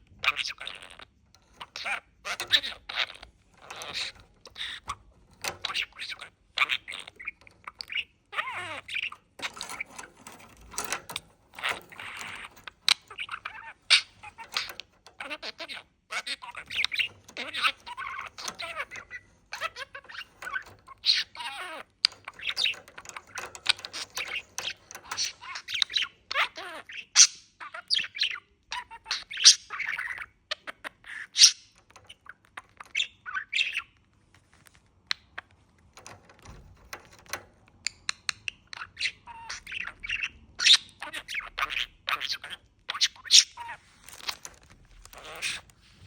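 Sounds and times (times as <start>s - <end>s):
budgerigar chattering and warbling: 0.1s - 34.0s, 38.1s - 45.7s.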